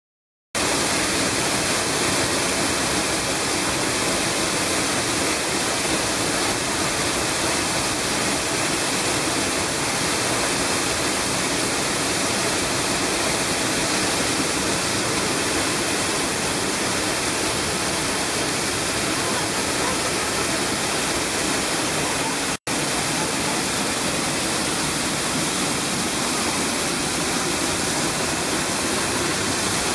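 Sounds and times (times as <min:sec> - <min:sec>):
waterfall crashing: 0:00.6 - 0:29.9.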